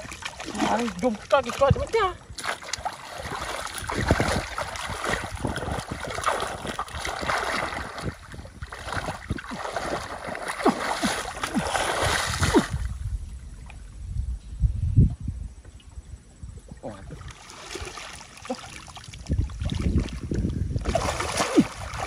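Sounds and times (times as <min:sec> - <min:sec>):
water splashing and sloshing: 0:00.0 - 0:14.0, 0:16.8 - 0:22.0.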